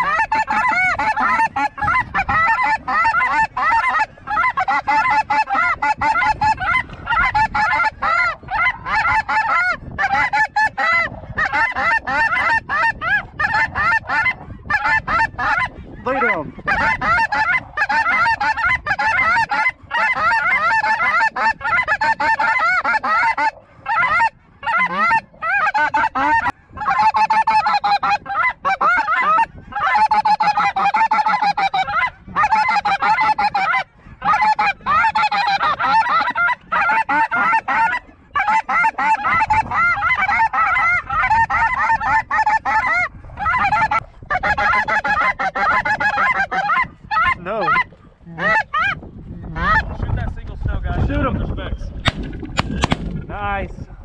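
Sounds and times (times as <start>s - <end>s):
flock of geese honking: 0.0s - 49.9s.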